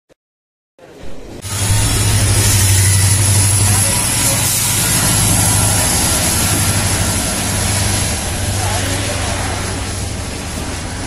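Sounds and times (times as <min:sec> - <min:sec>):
high whine: 0:01.4 - 0:11.0
heavy vehicle engine idling: 0:01.5 - 0:11.0.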